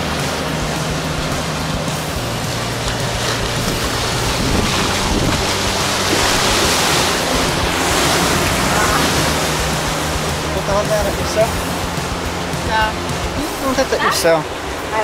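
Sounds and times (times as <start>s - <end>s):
wind buffeting microphone: 0.0s - 13.8s
rushing water and waterfall: 0.0s - 15.0s.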